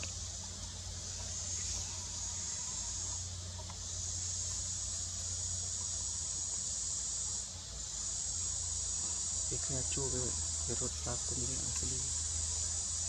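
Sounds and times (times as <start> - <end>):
insects buzzing: 0.0 - 13.0
low steady hum: 0.0 - 13.0.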